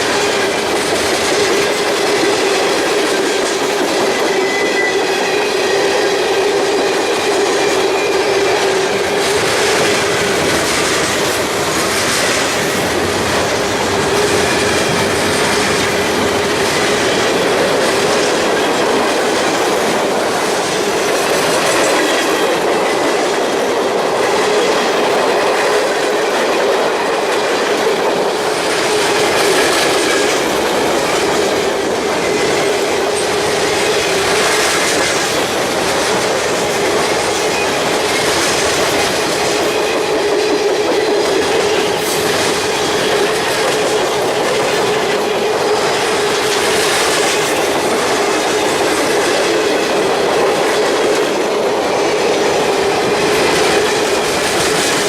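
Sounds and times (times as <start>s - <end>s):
steady tone from wheels on rail: 0.0s - 55.0s
train wheels clacking on track: 0.0s - 55.0s.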